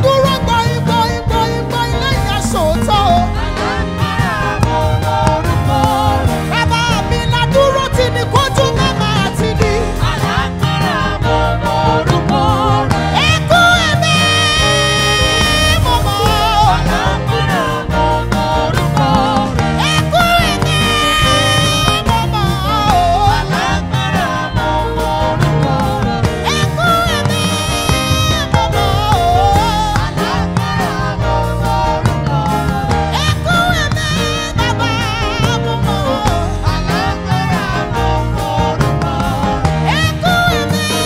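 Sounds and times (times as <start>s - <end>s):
band with drums: 0.0s - 41.0s
women singing gospel: 0.0s - 41.0s.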